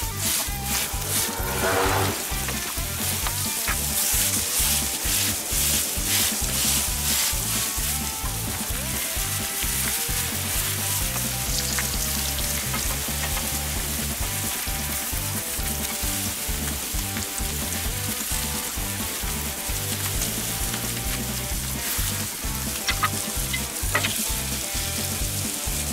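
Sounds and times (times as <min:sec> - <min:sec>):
meat sizzling on a griddle: 0:00.0 - 0:01.6, 0:02.3 - 0:25.9.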